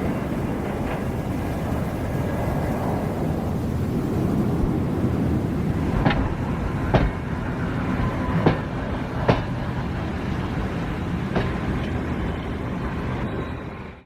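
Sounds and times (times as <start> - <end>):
sharp clicks of train wheels: 0.0 - 4.3, 5.8 - 12.8
train rumbling on track: 0.0 - 14.0.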